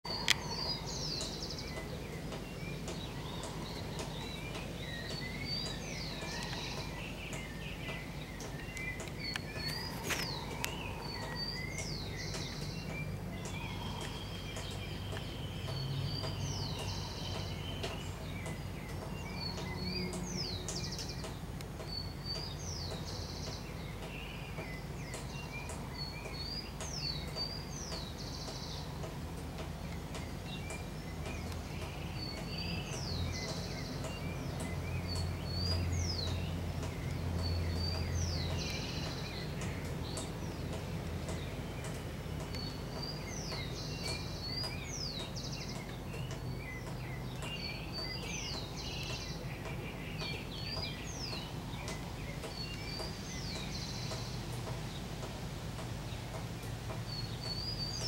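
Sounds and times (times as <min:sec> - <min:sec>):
bird chirping with buzzy trill: 0:00.1 - 0:29.2, 0:29.8 - 0:55.3, 0:56.0 - 0:58.0
softer lower bird chirps: 0:00.1 - 0:29.2, 0:29.8 - 0:55.0.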